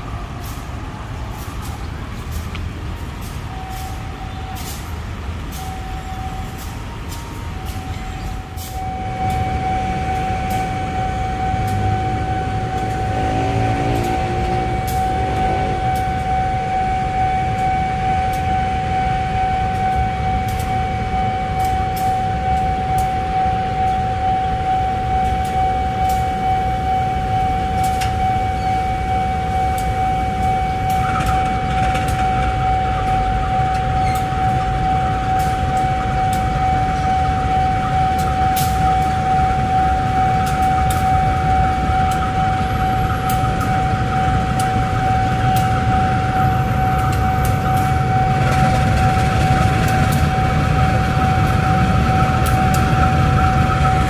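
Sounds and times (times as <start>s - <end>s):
train rumbling: 0.0s - 54.0s
high-pitched whine: 3.1s - 54.0s.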